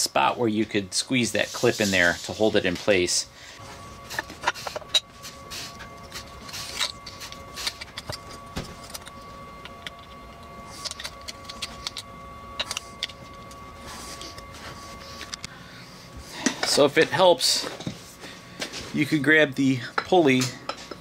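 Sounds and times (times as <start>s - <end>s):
faint steady tone: 2.3s - 20.9s.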